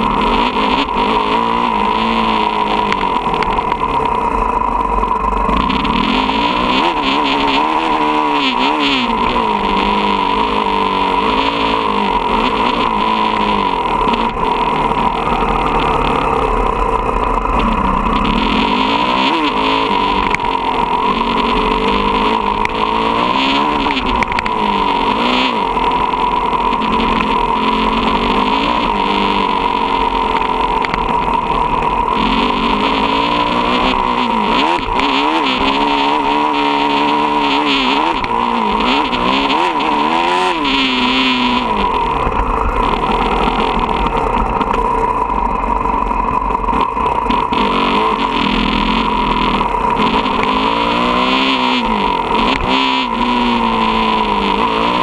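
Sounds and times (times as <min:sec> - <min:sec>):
motocross bike engine revving: 0:00.0 - 0:55.0
wind and road noise: 0:00.0 - 0:55.0.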